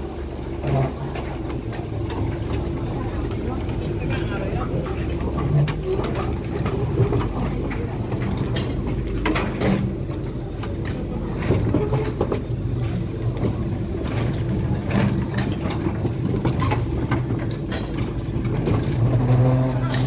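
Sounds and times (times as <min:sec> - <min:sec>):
train carts rumbling on rails: 0:00.0 - 0:20.0
metallic clanks and clicks: 0:00.6 - 0:20.0.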